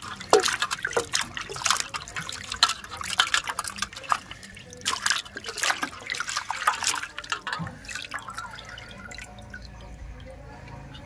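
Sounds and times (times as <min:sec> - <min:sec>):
water sloshing and splashing in bowl: 0:00.0 - 0:11.0.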